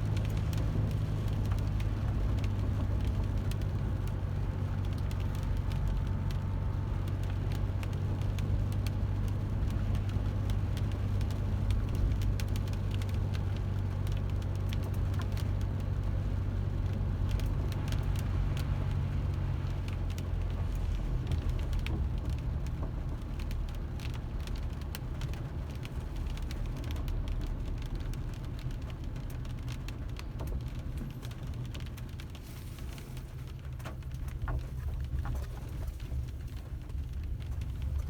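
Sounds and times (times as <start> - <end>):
car engine and road rumble: 0.0 - 38.0
raindrops ticking: 0.1 - 38.0.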